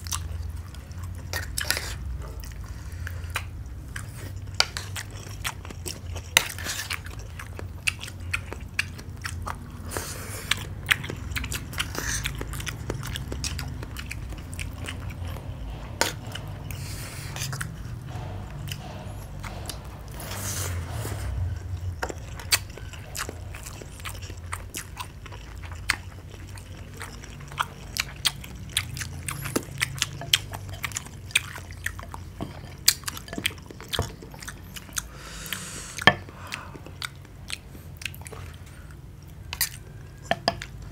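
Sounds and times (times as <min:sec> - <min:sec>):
people chewing: 0:00.0 - 0:40.9.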